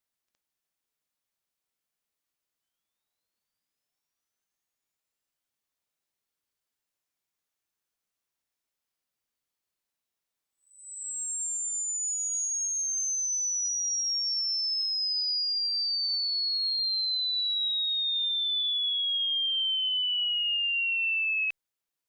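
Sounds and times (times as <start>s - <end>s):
sine-wave test tone sweeping down: 2.6s - 21.6s.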